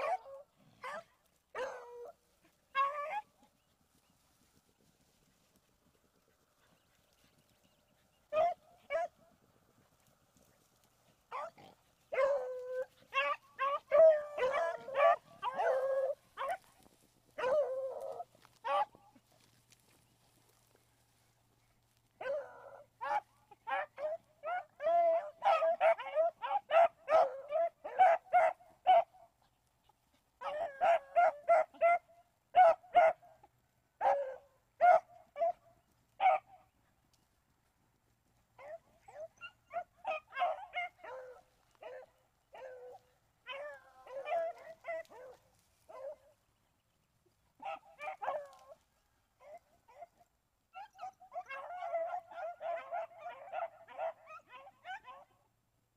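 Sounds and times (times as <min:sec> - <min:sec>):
hounds yelping and barking: 0:00.0 - 0:36.9, 0:38.3 - 0:55.5.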